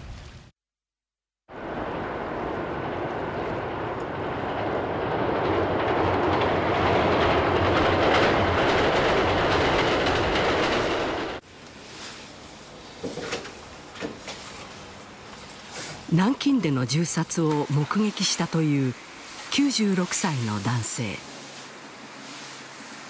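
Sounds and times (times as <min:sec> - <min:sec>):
train rumbling along track: 0:01.5 - 0:23.0.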